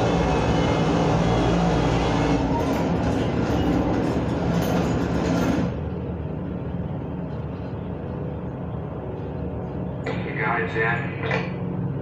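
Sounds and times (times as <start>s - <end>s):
piston aircraft engines droning: 0.0s - 12.0s.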